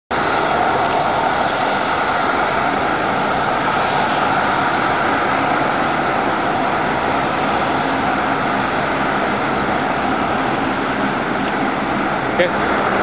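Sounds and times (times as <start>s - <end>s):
jet engines running: 0.1s - 13.0s.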